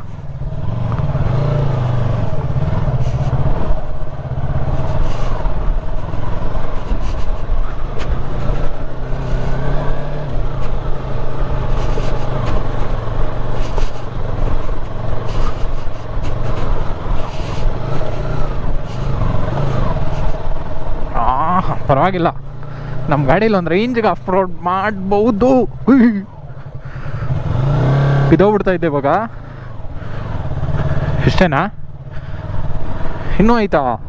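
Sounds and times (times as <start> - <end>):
motorcycle engine revving: 0.0 - 33.6.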